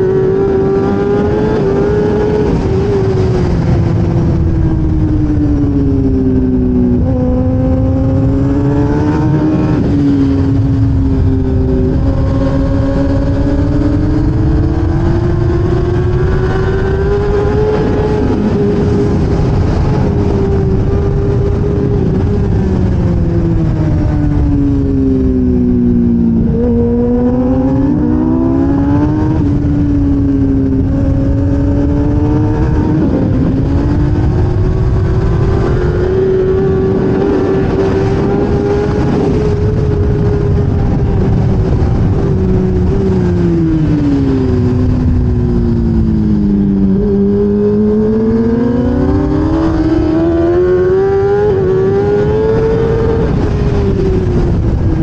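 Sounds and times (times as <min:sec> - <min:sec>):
motorcycle engine at high revs: 0:00.0 - 0:55.0
wind rush: 0:00.0 - 0:55.0.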